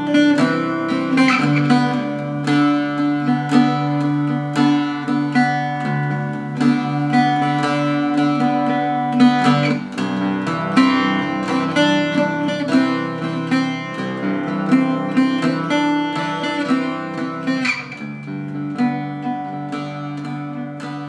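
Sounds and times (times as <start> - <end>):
mandocello plucked notes and chords: 0.0 - 21.0.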